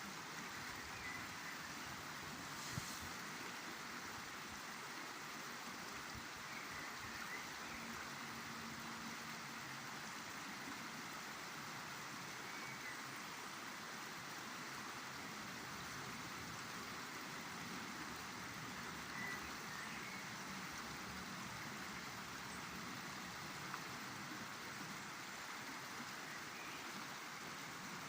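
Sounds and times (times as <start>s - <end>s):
river water flowing: 0.0s - 28.0s.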